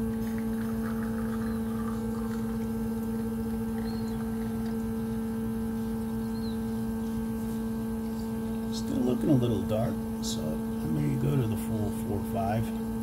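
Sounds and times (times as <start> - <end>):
espresso machine pump humming: 0.0 - 13.0.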